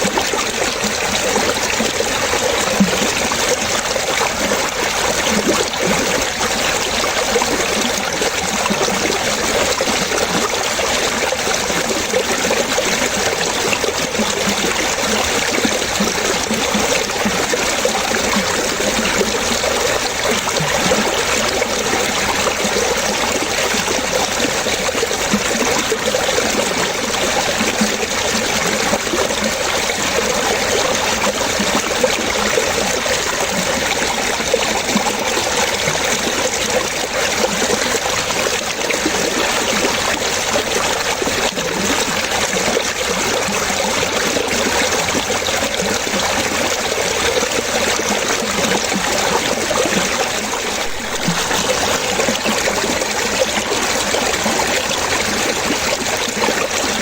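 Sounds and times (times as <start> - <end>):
water trickling and bubbling: 0.0 - 57.0.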